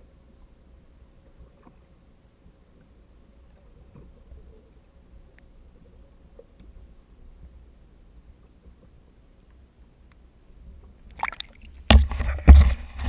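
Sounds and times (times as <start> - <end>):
faint steady hum: 0.0 - 13.0
low rumble of water: 0.0 - 13.0.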